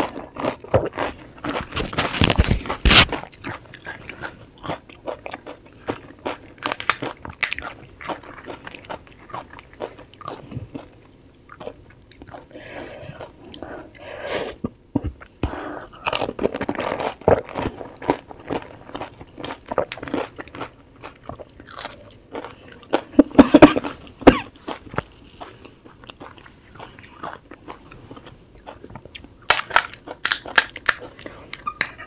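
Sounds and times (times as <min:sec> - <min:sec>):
crisp shells crunching in mouth: 0:00.0 - 0:12.4, 0:16.0 - 0:23.1, 0:24.6 - 0:32.0.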